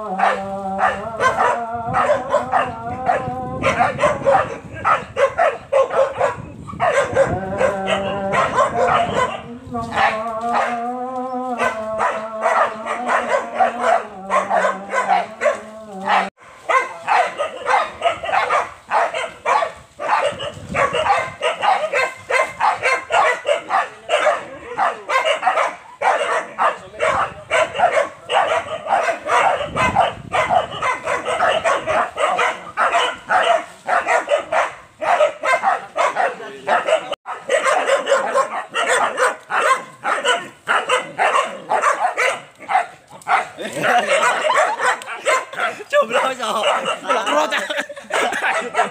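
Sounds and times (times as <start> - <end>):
dogs barking rapidly: 0.0 - 10.9, 11.5 - 48.9.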